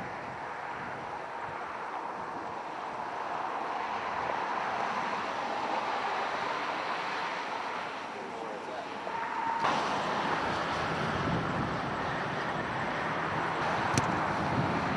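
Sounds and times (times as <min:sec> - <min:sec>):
highway traffic noise: 0:00.0 - 0:14.9.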